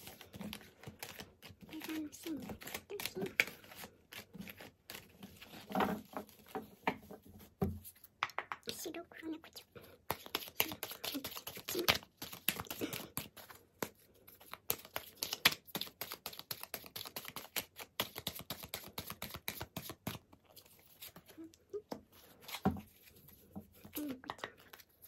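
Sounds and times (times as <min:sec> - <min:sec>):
cards being shuffled: 0:00.0 - 0:06.8, 0:10.0 - 0:25.0.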